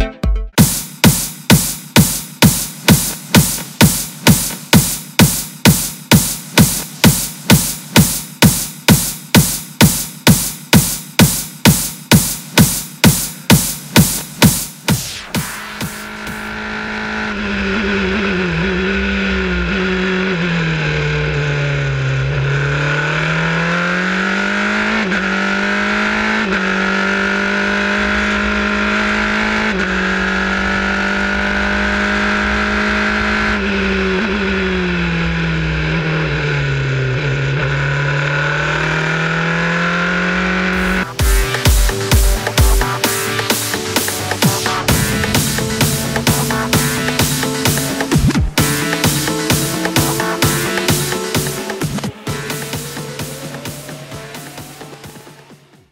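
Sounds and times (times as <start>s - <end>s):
race car engine at high revs: 0.6s - 55.9s.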